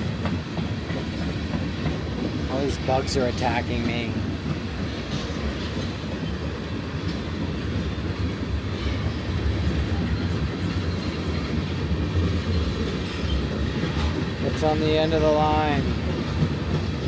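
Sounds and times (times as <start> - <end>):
clicking at rail joints: 0.0 - 17.0
freight train wheels rumbling: 0.0 - 17.0.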